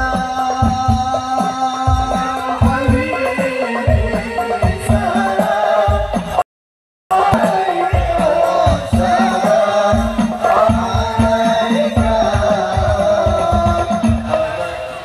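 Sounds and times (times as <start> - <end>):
devotional singing over loudspeaker: 0.0 - 6.4, 7.1 - 15.0
steady drum beat: 0.0 - 6.4, 7.1 - 14.6.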